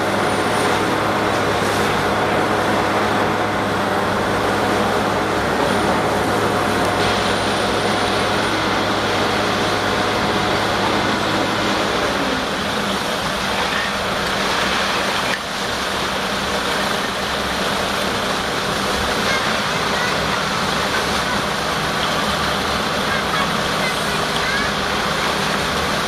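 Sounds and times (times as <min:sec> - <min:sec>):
drilling rig engine running: 0:00.0 - 0:26.0.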